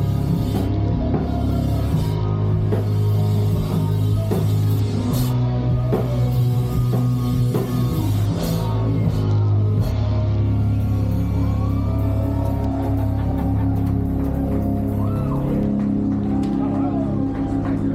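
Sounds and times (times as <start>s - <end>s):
drum and cymbal hits: 0.0s - 16.1s
electric guitars and bass: 0.0s - 17.9s.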